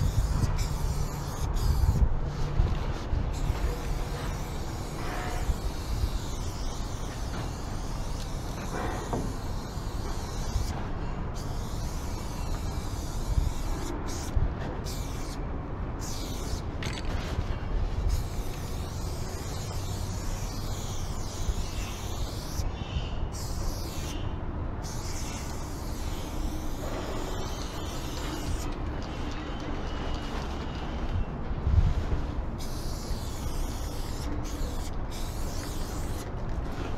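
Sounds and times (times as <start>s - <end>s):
spray paint can hissing: 0.0s - 15.4s, 16.0s - 17.4s, 18.0s - 22.7s, 23.3s - 29.4s, 32.6s - 36.4s.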